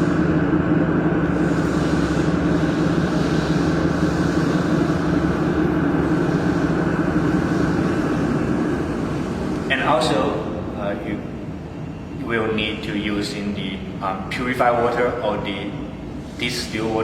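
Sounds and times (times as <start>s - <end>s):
water cooling unit humming: 0.0s - 17.0s.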